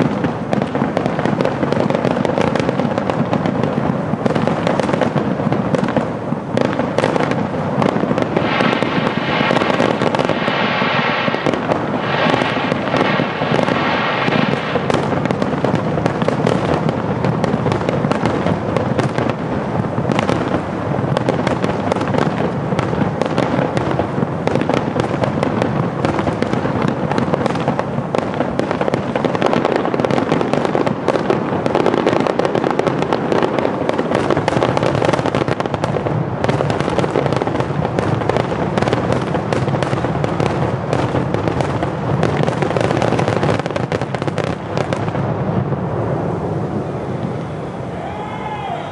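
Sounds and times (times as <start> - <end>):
fireworks bursting and crackling: 0.0 - 48.9.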